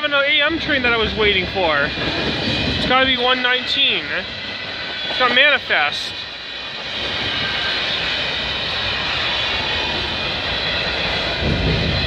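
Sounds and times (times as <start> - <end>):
steel wheels rushing on rail: 0.0 - 12.0.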